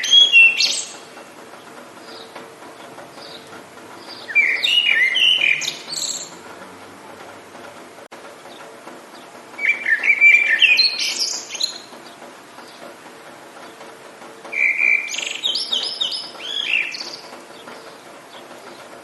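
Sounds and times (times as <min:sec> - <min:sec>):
songbird warbling: 0:00.0 - 0:06.7, 0:08.5 - 0:12.8, 0:14.5 - 0:18.8
rain hissing: 0:00.0 - 0:19.0.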